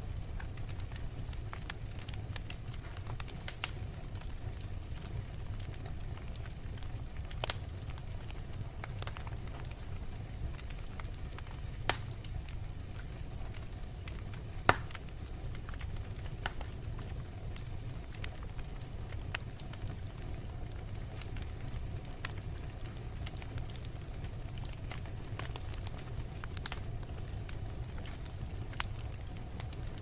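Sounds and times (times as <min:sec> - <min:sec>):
fire flames rumbling: 0:00.0 - 0:30.0
logs crackling and popping: 0:00.0 - 0:30.0.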